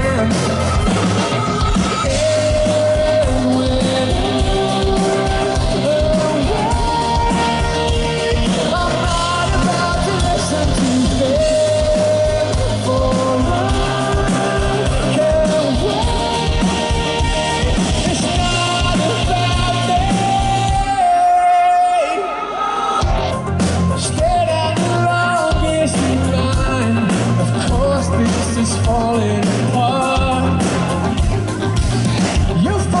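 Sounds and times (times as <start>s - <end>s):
man singing: 0.0s - 23.3s, 23.9s - 33.0s
live rock band: 0.0s - 33.0s.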